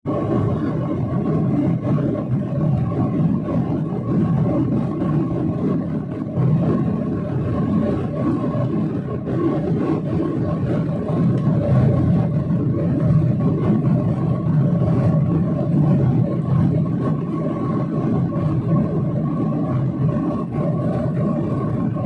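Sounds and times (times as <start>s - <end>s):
airliner engine roar: 0.0s - 22.0s.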